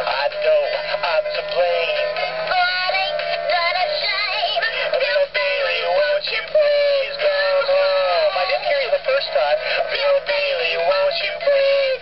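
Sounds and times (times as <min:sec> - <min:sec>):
recorded singing over music: 0:00.0 - 0:12.0.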